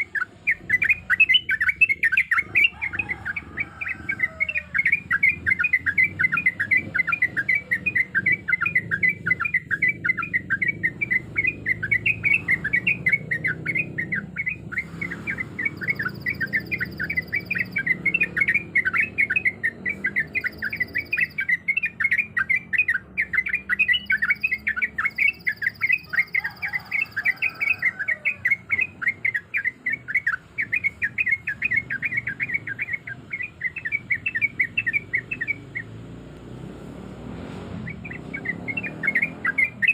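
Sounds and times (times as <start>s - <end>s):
bulbul singing rapid notes: 0.0s - 39.9s.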